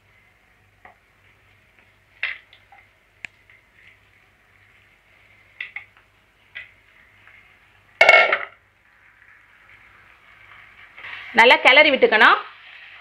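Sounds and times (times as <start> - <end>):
faint sizzle: 0.0 - 13.0.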